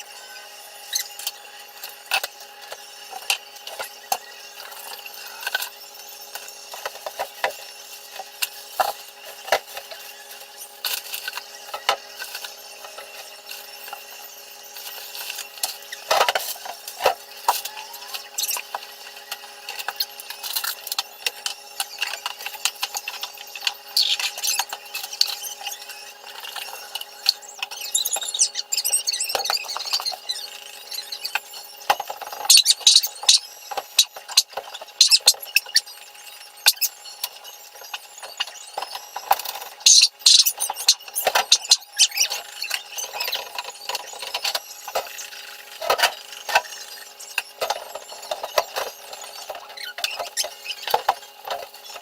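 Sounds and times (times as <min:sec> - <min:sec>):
squeaks: 0:08.6 - 0:52.0.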